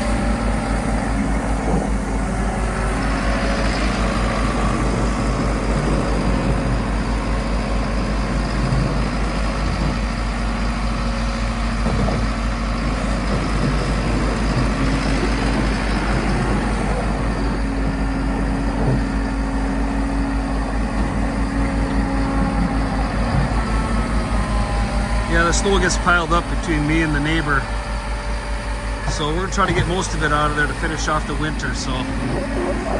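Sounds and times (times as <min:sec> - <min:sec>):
skid steer engine running: 0:00.0 - 0:32.9
steady higher whine: 0:00.0 - 0:32.9.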